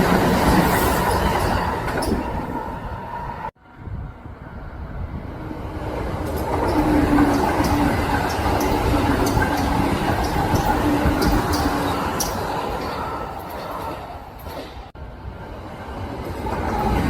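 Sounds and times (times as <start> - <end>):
electric train running past: 0.0 - 17.0.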